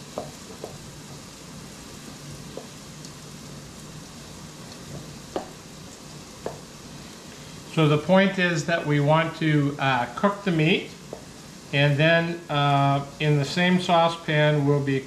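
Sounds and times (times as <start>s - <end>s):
onions and garlic sizzling in a skillet: 0.0s - 15.0s.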